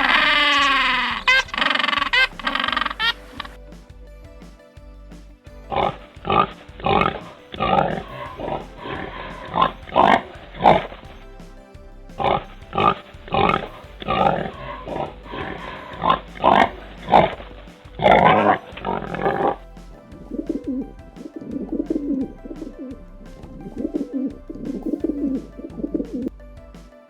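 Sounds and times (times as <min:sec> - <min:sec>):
background music with light beat: 0:00.0 - 0:27.0.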